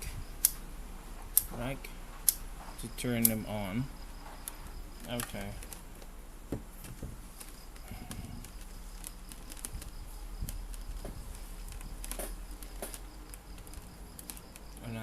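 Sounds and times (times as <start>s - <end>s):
faint insect chirping: 0.0s - 15.0s
low electrical hum: 0.0s - 15.0s.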